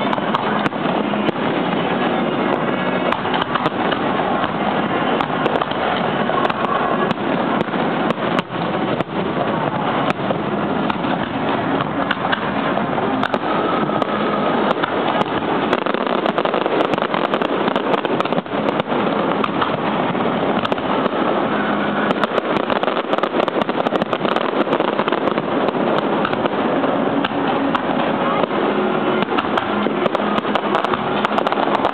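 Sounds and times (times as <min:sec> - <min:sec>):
fireworks bangs and crackles: 0:00.0 - 0:31.9.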